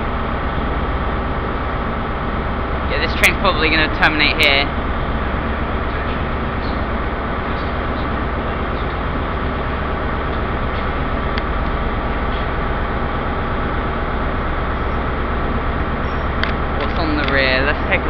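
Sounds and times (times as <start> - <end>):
diesel train engine droning: 0.0 - 18.0.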